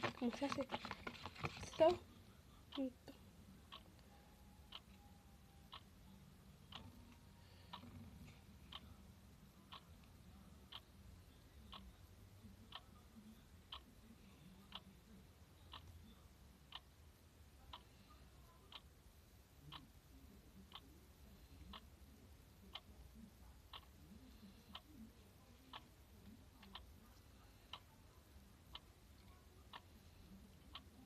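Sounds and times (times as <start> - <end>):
low background hum: 0.0 - 31.0
clock ticking faintly: 2.6 - 31.0.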